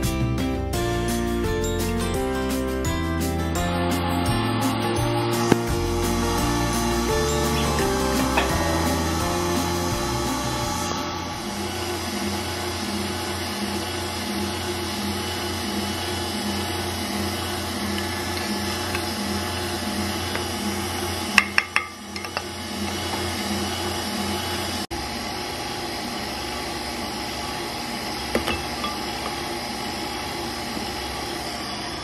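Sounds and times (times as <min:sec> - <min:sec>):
electric stand mixer whisking: 0:04.5 - 0:32.0.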